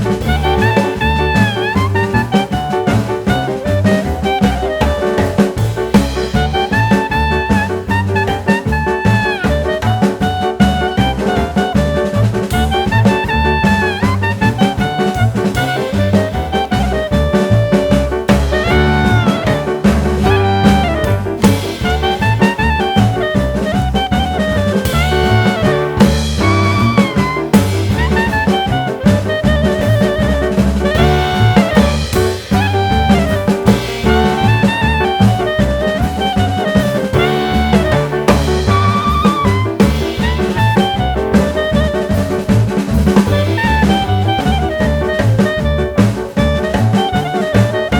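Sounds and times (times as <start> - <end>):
upbeat jazz tune: 0.0 - 47.9.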